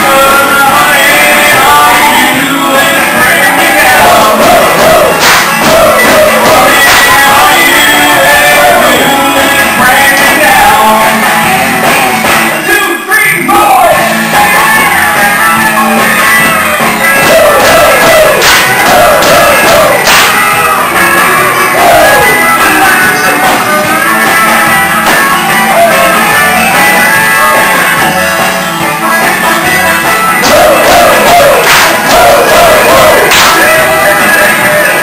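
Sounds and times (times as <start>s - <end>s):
upbeat dance song with singing: 0.0s - 35.0s.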